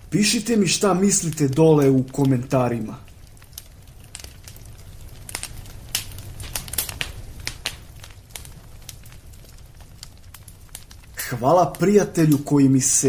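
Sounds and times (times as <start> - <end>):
campfire crackling and popping: 0.0 - 13.0
low rumble of flames: 0.0 - 13.0.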